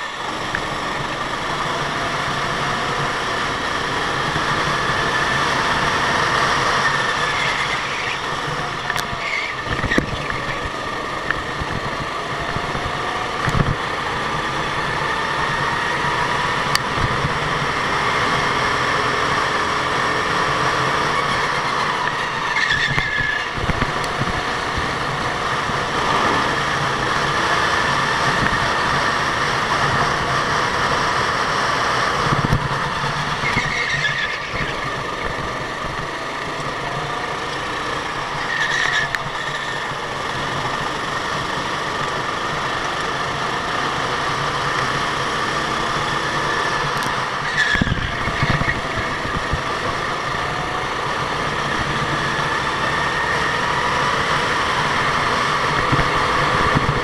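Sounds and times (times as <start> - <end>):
go-kart engines revving: 0.0 - 57.0.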